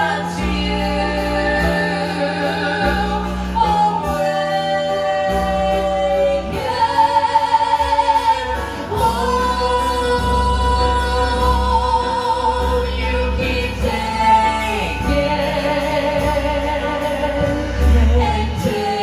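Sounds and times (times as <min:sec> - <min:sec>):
piano rock band playing: 0:00.0 - 0:19.0.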